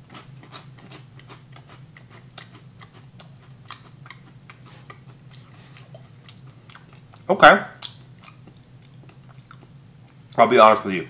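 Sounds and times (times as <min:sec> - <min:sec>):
chewing crisp wafer crunches: 0:00.0 - 0:10.4.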